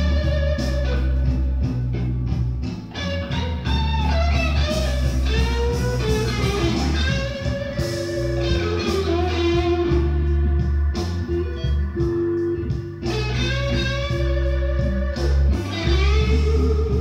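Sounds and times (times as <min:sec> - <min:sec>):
bass line: 0:00.0 - 0:17.0
blues electric guitar lead: 0:00.0 - 0:17.0.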